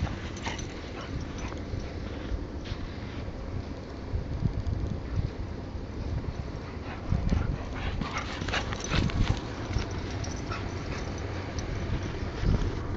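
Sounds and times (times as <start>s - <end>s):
wind rumble on microphone: 0.0s - 12.9s.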